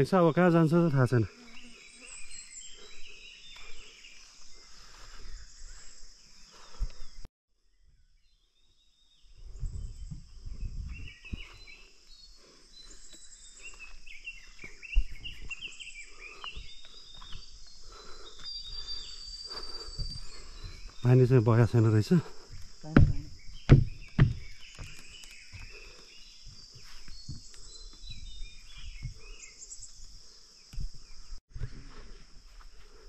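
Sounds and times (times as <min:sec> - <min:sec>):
high insect chirps: 0:00.0 - 0:07.3, 0:07.9 - 0:33.0
insects droning: 0:00.0 - 0:07.3, 0:08.0 - 0:33.0.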